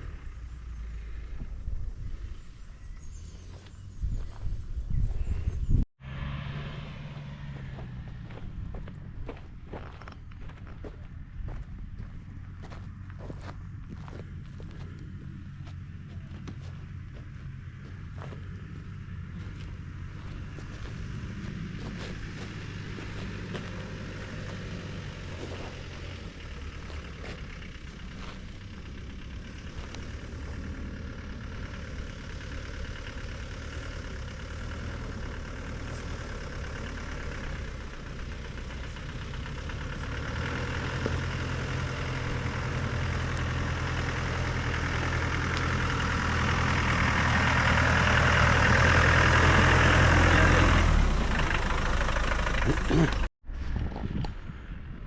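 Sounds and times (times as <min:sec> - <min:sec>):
off-road vehicle engine running: 0:00.0 - 0:55.0.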